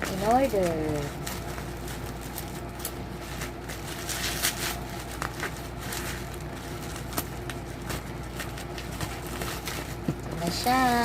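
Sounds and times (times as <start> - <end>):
packaging crinkling and rustling: 0.0 - 11.0
steady low hum: 0.0 - 11.0.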